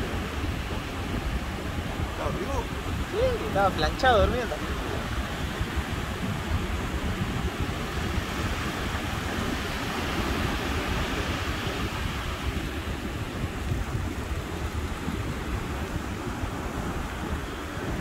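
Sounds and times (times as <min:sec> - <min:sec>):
ocean surf: 0:00.0 - 0:18.0
wind: 0:00.0 - 0:18.0
wind rumble on microphone: 0:00.0 - 0:18.0.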